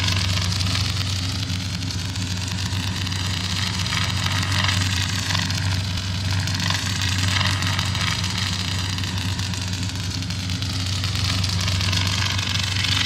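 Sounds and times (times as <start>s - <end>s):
lightsaber humming and crackling: 0.0s - 13.0s.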